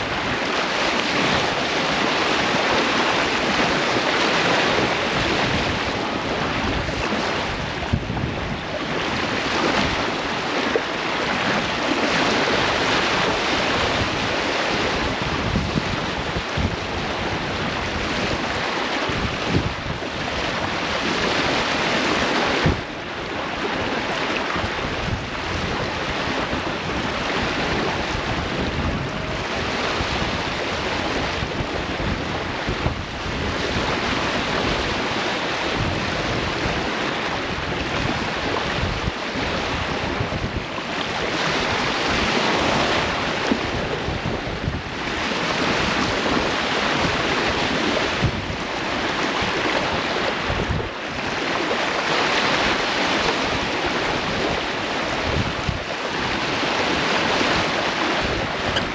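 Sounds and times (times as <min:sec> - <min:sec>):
water rushing along hull: 0:00.0 - 0:58.9
wind buffeting microphone: 0:00.0 - 0:58.9.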